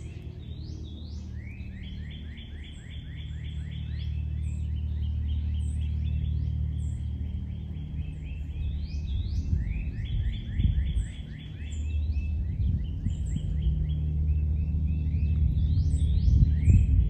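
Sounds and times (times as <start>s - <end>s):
low rumble: 0.0s - 2.5s, 3.2s - 17.0s
small birds chirping: 0.0s - 17.0s.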